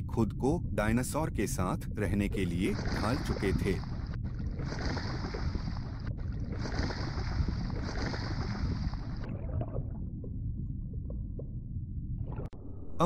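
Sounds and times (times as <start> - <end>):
underwater rumbling wash: 0.0 - 13.0.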